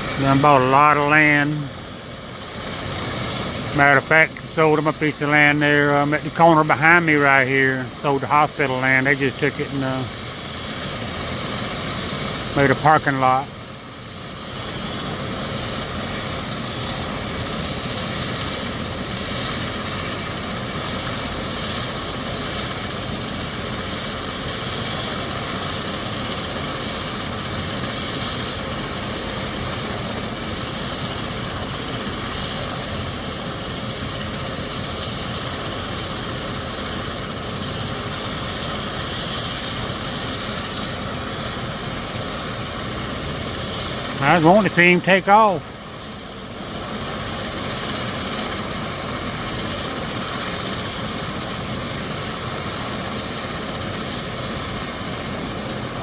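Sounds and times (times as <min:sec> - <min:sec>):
helicopter turbine and rotor noise: 0:00.0 - 0:56.0.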